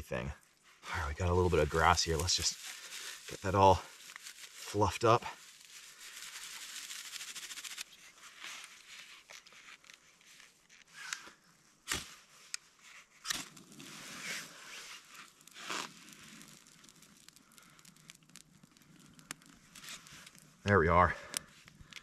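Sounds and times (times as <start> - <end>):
dry grass crinkling and rustling: 0.9 - 11.0, 11.9 - 22.0.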